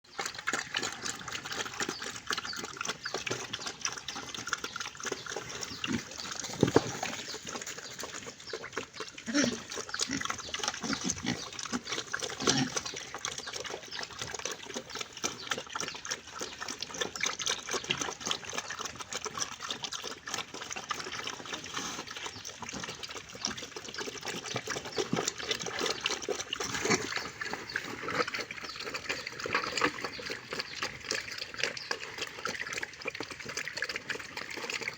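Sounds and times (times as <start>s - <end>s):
pigs chewing and smacking: 0.0s - 34.9s
pig grunts: 0.1s - 34.9s.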